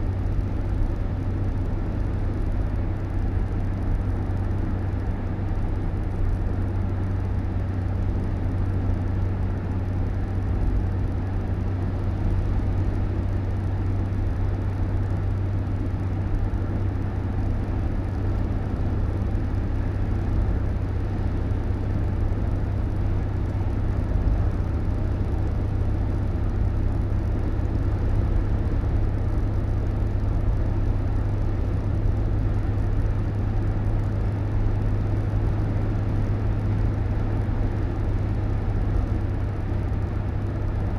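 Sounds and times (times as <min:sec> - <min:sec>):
car engine rumble: 0:00.0 - 0:40.9.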